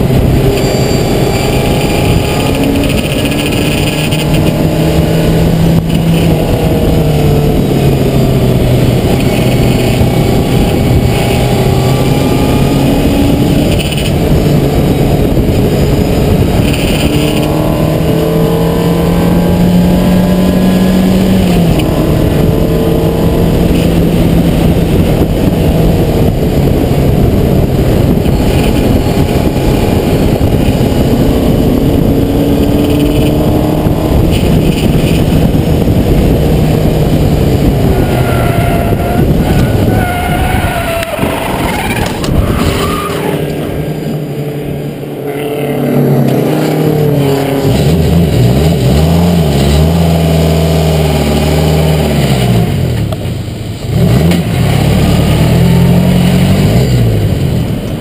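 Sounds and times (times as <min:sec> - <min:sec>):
race car engine revving: 0:00.0 - 0:58.0
wind rush: 0:00.0 - 0:58.0.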